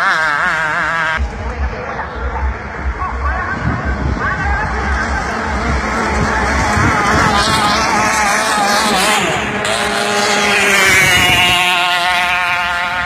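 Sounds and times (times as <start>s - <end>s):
racing boat engine high revs: 0.0s - 13.0s.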